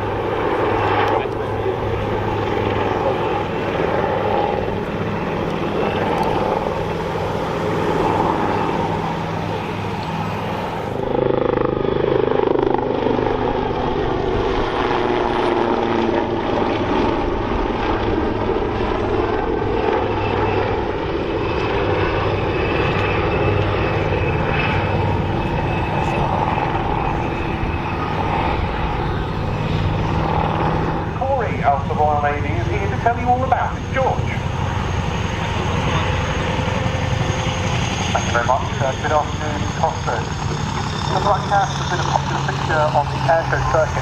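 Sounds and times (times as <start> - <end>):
helicopter rotor and turbines: 0.0 - 44.0
piston aircraft engine: 0.0 - 44.0.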